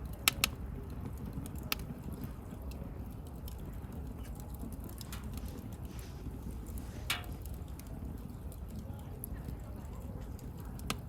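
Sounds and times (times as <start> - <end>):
bonfire crackling and popping: 0.0 - 11.0
low rush of flames: 0.0 - 11.0.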